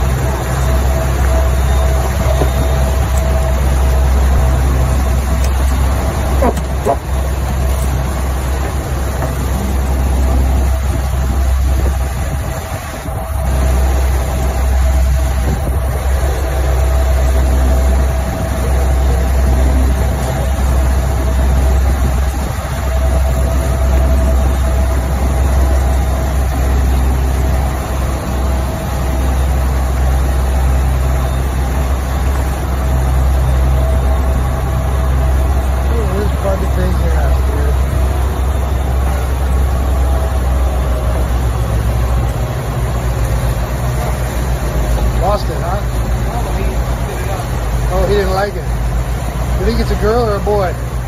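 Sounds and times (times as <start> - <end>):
boat engine running: 0.0 - 51.0
water rushing from wake: 0.0 - 51.0.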